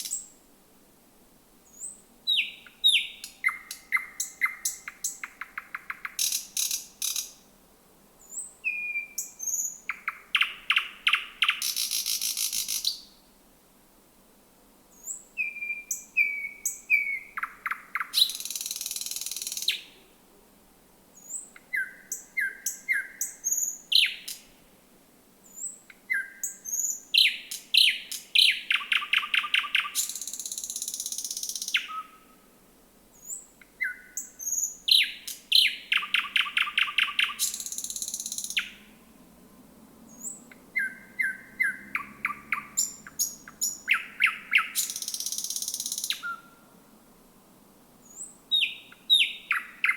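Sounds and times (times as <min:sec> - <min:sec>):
nightingale singing: 0:00.0 - 0:00.4, 0:01.6 - 0:07.4, 0:08.2 - 0:13.2, 0:14.9 - 0:20.1, 0:21.2 - 0:24.6, 0:25.4 - 0:32.4, 0:33.1 - 0:39.0, 0:40.1 - 0:46.6, 0:48.0 - 0:49.9.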